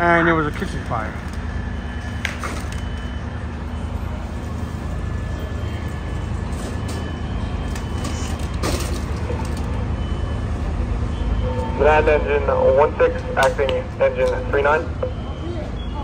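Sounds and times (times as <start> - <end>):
truck engines idling: 0.0 - 16.0.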